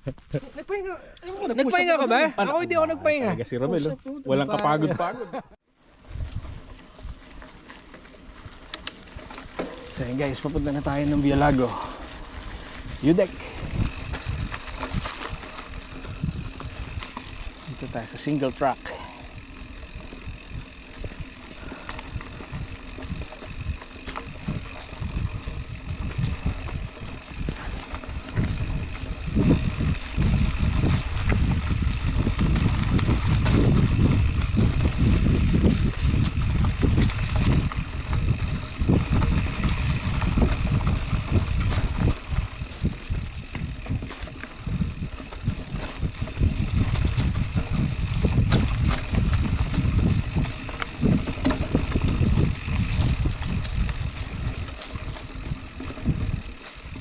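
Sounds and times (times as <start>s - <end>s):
bike knocking and rattling: 5.9s - 57.0s
wind buffeting microphone: 6.0s - 7.5s, 8.3s - 18.2s, 18.8s - 57.0s
tyres rumbling on dirt: 6.5s - 57.0s.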